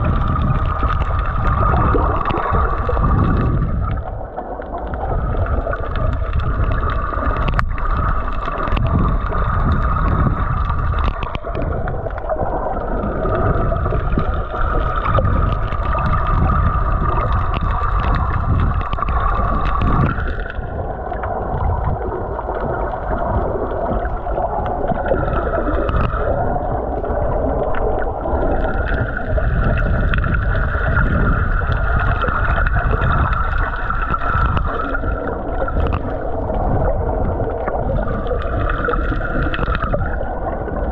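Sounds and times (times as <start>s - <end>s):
muffled underwater rush: 0.0s - 40.9s.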